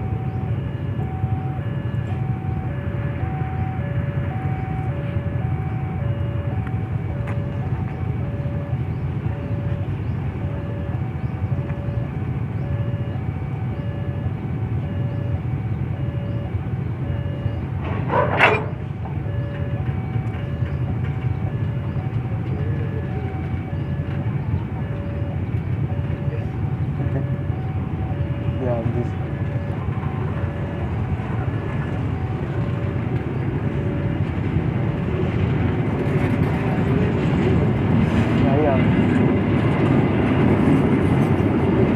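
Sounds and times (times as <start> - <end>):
level crossing two-tone alarm: 0.0 - 35.2
steady low rumble: 0.0 - 41.9.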